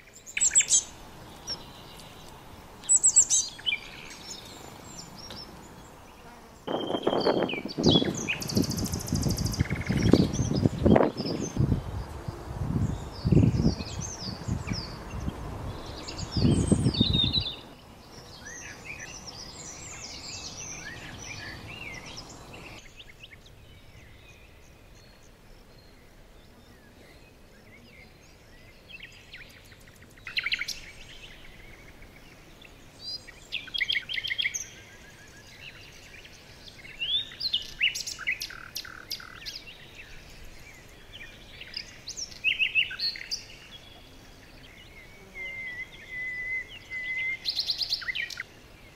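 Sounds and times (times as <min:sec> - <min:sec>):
background hiss: 0:00.0 - 0:48.9
small birds chirping and trilling: 0:00.0 - 0:48.9.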